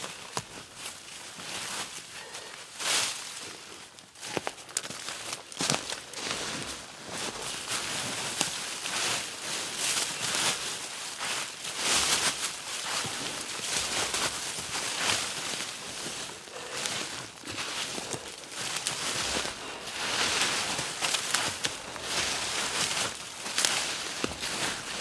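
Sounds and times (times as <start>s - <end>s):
rustling and crunching of leaves: 0.0s - 25.0s.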